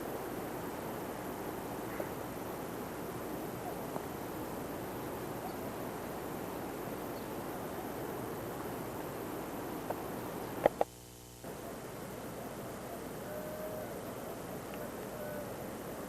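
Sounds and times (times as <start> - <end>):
hiss-like background noise: 0.0 - 16.0.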